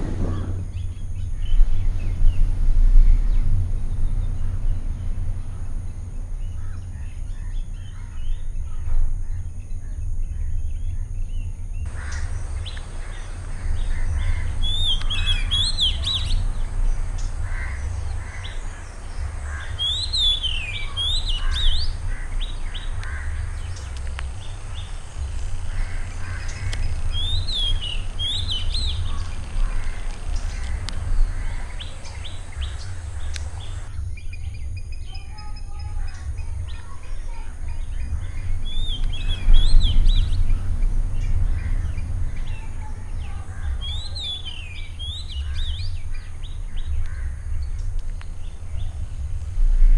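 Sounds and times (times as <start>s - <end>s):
birds chirping and calling: 0.0s - 49.6s
steady low rumble: 0.0s - 49.9s.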